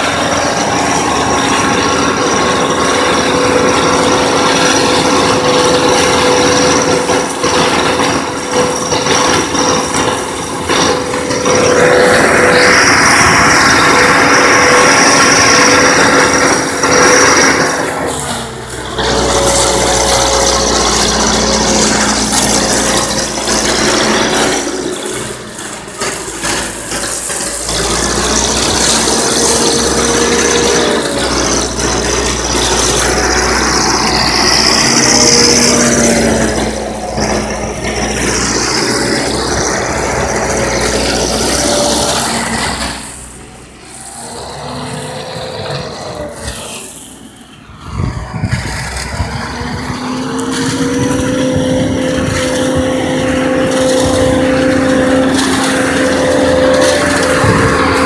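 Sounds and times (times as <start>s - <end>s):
diesel engine humming: 0.0s - 58.0s.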